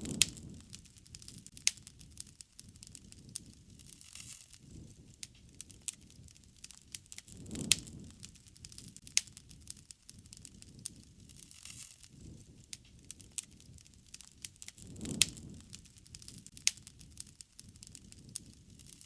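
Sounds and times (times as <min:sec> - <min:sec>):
low rush of flames: 0:00.0 - 0:19.0
wood fire crackling: 0:00.0 - 0:19.0.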